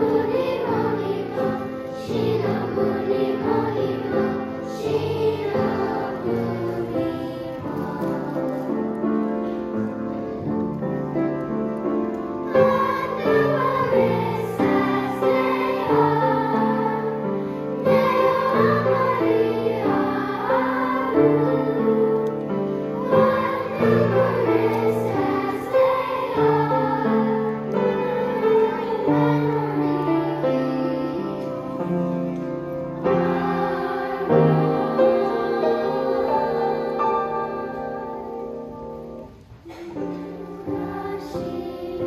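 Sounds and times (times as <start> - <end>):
children's choir singing: 0.0 - 42.0
piano accompaniment: 0.0 - 42.0.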